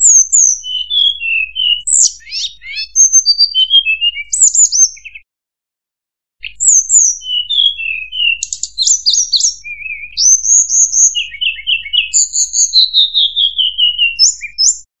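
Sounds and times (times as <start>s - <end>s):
bird song whistles and trills: 0.0s - 5.3s, 6.4s - 14.9s.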